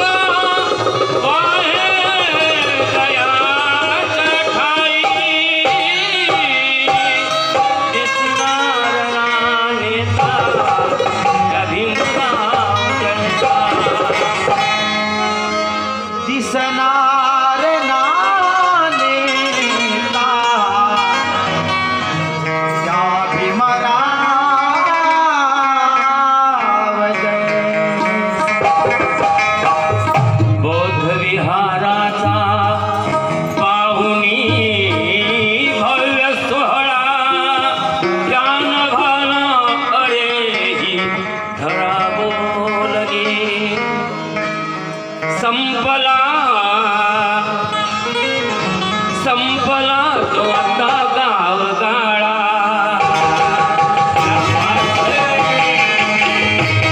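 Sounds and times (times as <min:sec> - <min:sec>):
harmonium: 0:00.0 - 0:56.9
man singing: 0:00.0 - 0:56.9
tabla drumming: 0:00.0 - 0:56.9.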